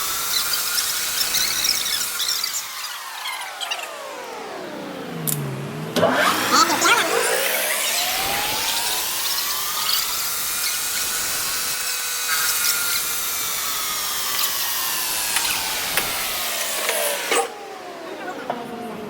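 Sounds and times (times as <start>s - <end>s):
spindle motor whining: 0.0s - 19.0s.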